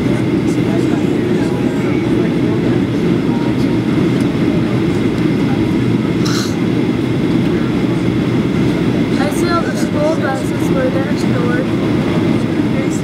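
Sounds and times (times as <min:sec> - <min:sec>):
airplane cabin roar: 0:00.0 - 0:13.0.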